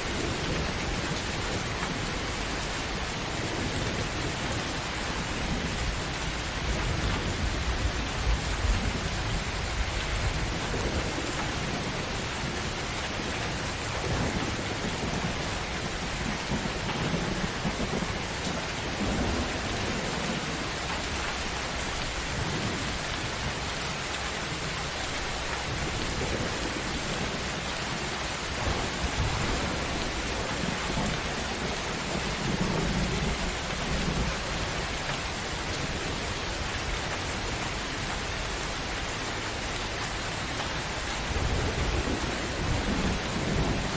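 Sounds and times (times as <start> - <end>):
thunder rumbling: 0.0 - 23.7, 24.5 - 37.6, 40.2 - 43.9
heavy rain falling: 0.0 - 43.9.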